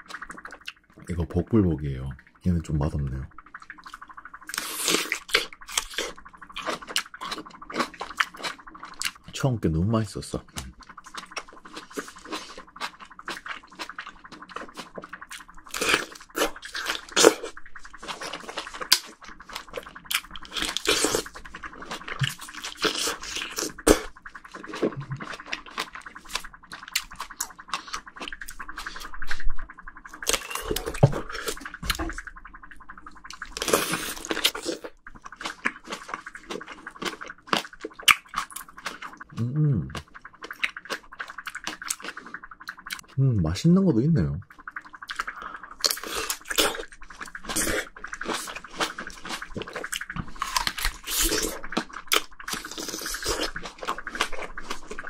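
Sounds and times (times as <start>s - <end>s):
wet biting and chewing: 3.8s - 9.3s, 10.5s - 32.2s, 33.1s - 43.2s, 44.9s - 55.0s.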